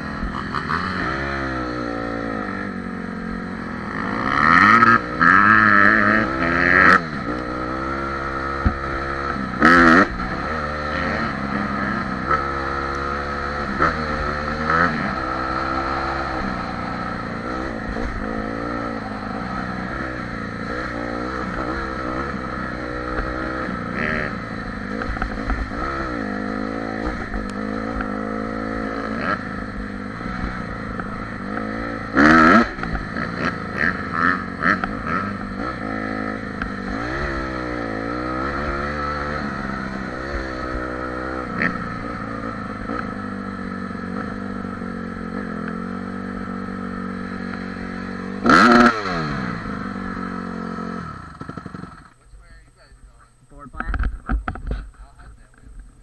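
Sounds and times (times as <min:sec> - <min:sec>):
quad engine revving: 0:00.0 - 0:52.9.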